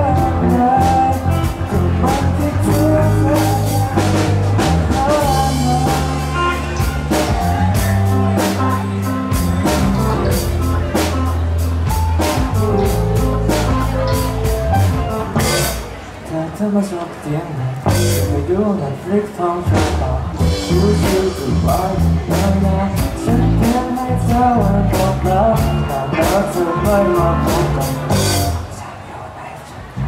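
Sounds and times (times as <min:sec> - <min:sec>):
drum kit beat: 0:00.0 - 0:16.0, 0:17.9 - 0:18.4, 0:19.8 - 0:28.7
electric guitars: 0:00.0 - 0:16.1, 0:19.7 - 0:28.7
bass guitar: 0:00.0 - 0:16.3, 0:17.8 - 0:19.0, 0:19.6 - 0:28.8
keyboard: 0:00.0 - 0:30.0.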